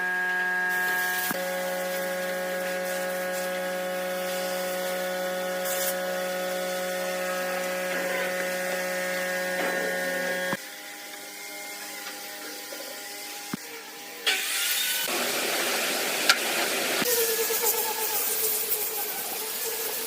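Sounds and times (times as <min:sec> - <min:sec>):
electric motor humming: 0:00.0 - 0:20.0.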